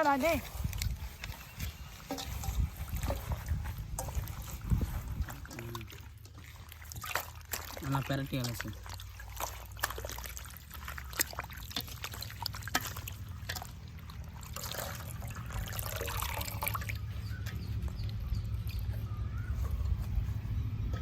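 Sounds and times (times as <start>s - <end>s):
low steady rumble: 0.0s - 7.8s, 8.8s - 21.0s
hands splashing leaves in water: 0.0s - 20.0s.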